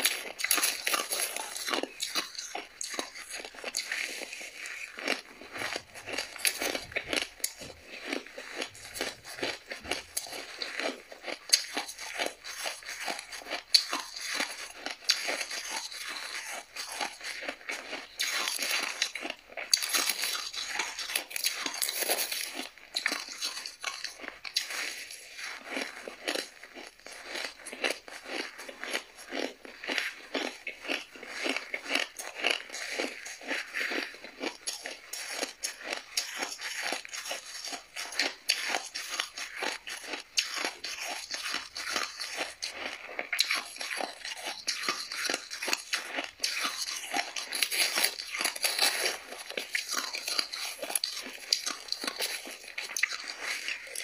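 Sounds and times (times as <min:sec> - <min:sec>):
shaved ice crunching: 0:00.0 - 0:54.0.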